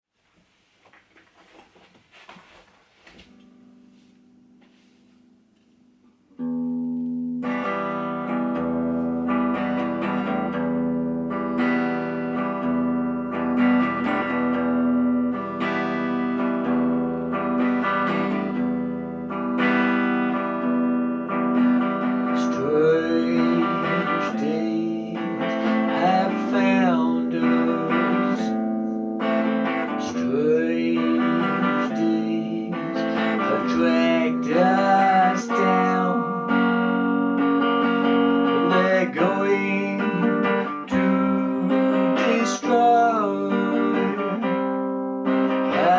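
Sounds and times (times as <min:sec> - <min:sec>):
guitar plucked and strummed chords: 0:03.2 - 0:45.9.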